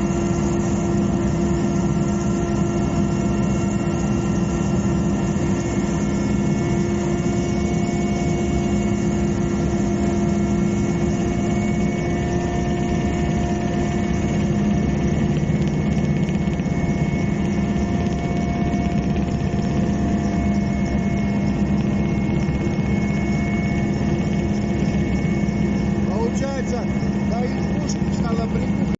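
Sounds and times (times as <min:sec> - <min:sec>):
aircraft engine drone: 0:00.0 - 0:28.9.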